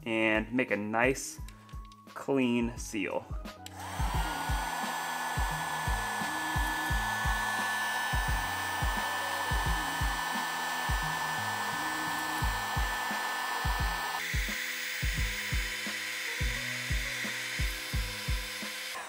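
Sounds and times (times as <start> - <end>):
heat gun blower with fan whine: 3.6 - 19.0.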